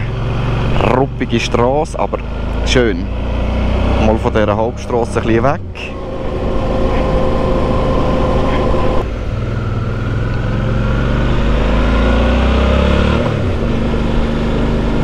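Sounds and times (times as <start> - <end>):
motorcycle engine running: 0.0 - 12.4
wind and road noise: 0.0 - 15.0.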